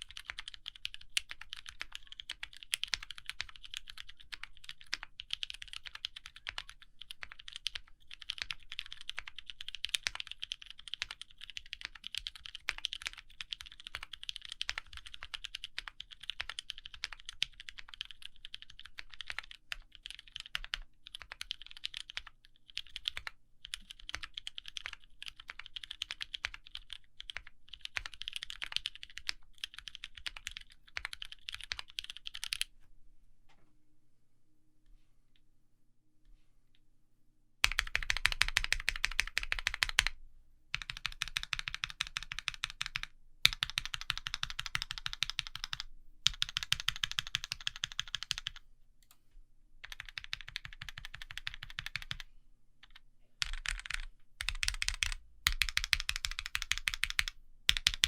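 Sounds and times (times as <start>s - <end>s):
fast typing on mechanical keyboard: 0.0s - 32.7s, 37.6s - 48.6s, 49.8s - 58.0s.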